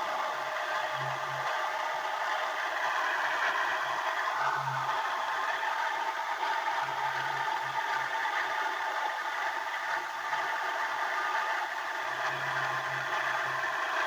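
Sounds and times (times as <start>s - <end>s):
washing machine spin rattling whir: 0.0s - 14.0s.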